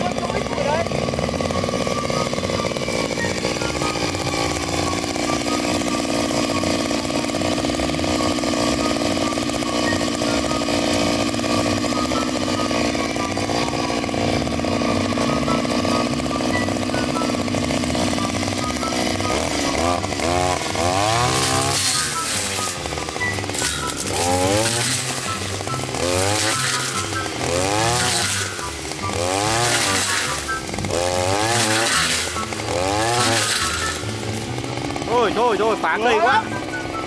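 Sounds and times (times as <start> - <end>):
brush cutter engine revving: 0.0 - 37.0.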